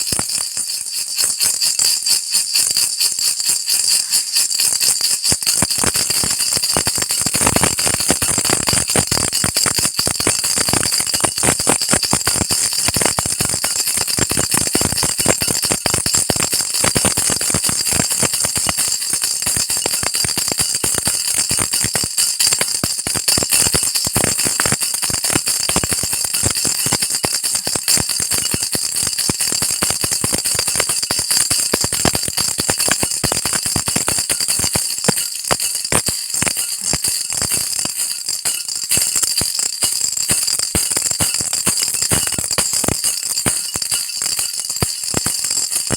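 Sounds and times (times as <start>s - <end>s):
baby rattle jingling: 0.0s - 45.9s.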